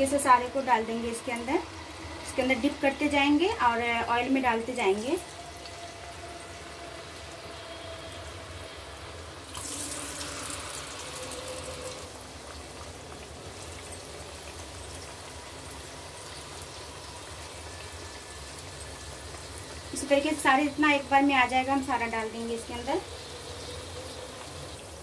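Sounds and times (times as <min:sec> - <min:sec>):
oil sizzling and bubbling: 0:00.0 - 0:25.0.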